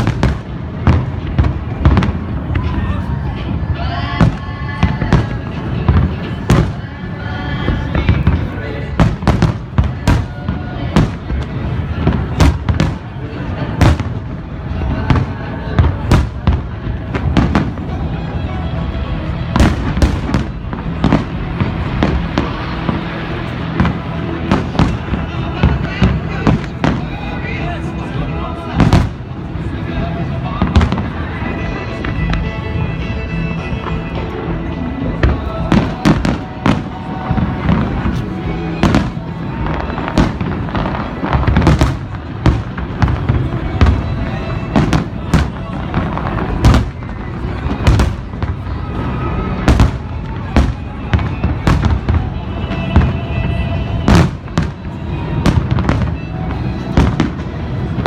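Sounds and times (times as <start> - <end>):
fireworks bangs: 0.0 - 58.0
fireworks rumble: 0.0 - 58.0
music playing: 0.0 - 58.0.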